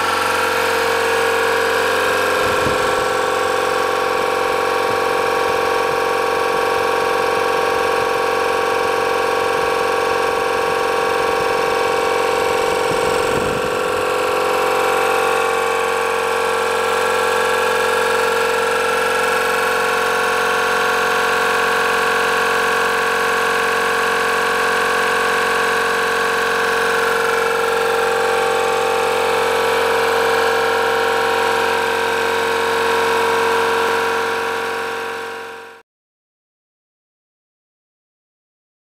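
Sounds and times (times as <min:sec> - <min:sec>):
air compressor running: 0:00.0 - 0:35.8.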